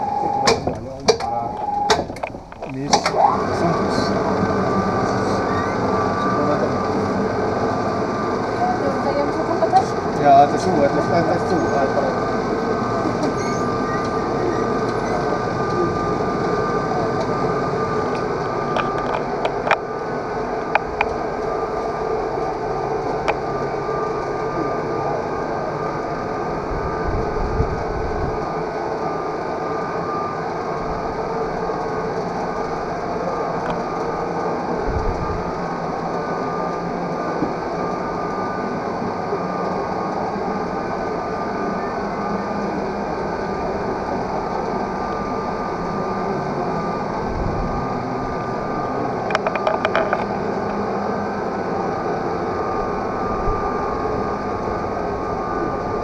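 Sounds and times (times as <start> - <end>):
cable lift mechanical hum: 0.0 - 56.0.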